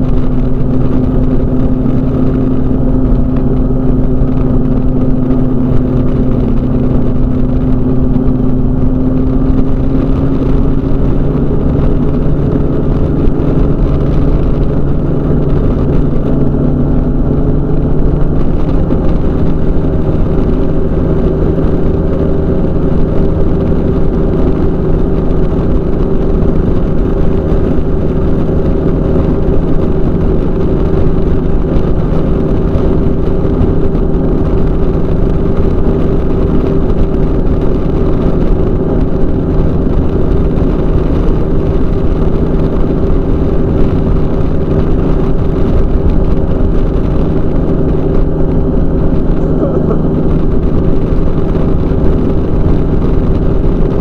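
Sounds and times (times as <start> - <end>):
microlight engine and propeller drone: 0.0 - 54.0.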